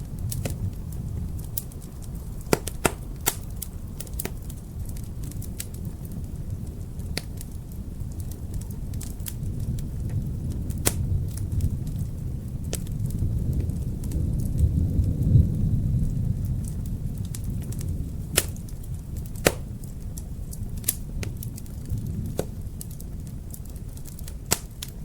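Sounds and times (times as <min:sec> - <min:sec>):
wind rumble: 0:00.0 - 0:25.0
wood fire crackling and popping: 0:00.0 - 0:25.0.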